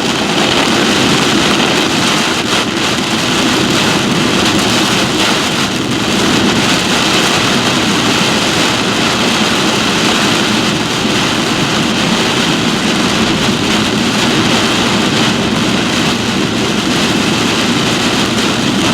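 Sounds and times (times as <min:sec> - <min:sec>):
heavy rain on a vehicle: 0:00.0 - 0:18.9
vehicle road and engine noise: 0:00.0 - 0:18.9
wind rushing against a vehicle: 0:00.0 - 0:18.9.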